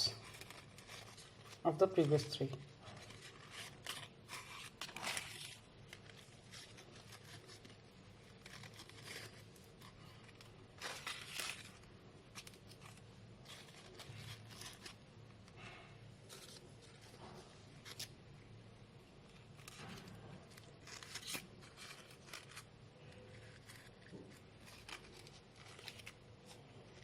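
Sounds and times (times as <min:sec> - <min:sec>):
paper rustling and crinkling: 0:00.0 - 0:27.0.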